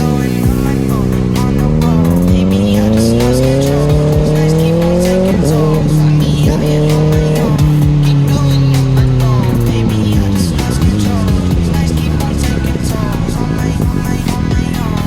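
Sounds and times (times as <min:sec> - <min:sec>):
motorcycle engine revving: 0:00.0 - 0:15.0
music: 0:00.0 - 0:15.0.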